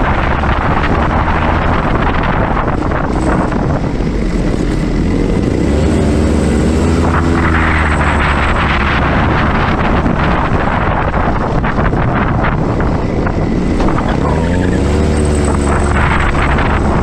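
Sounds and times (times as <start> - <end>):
kart engine running hard: 0.0 - 17.0
wind noise on microphone: 0.0 - 17.0.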